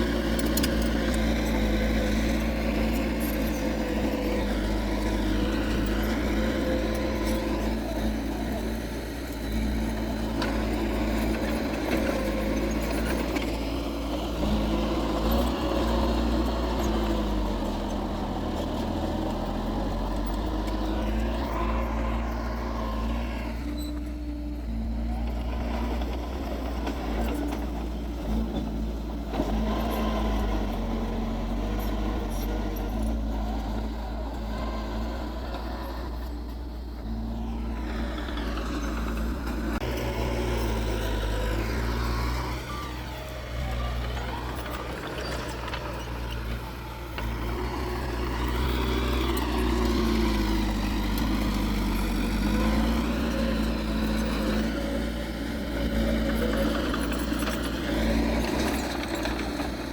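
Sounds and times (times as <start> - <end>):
diesel engine under changing load: 0.0 - 59.9.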